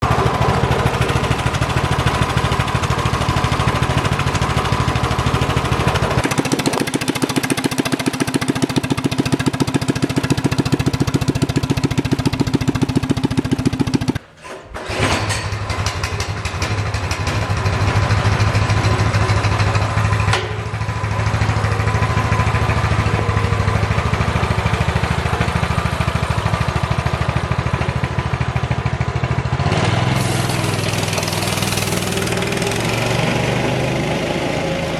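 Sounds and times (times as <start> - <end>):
minibike engine running: 0.0 - 34.9.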